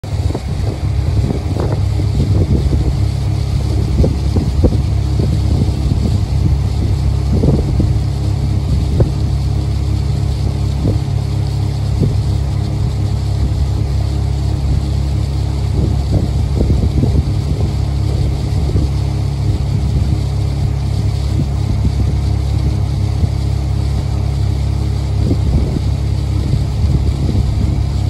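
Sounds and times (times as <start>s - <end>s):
motorboat engine rumble: 0.0s - 28.0s.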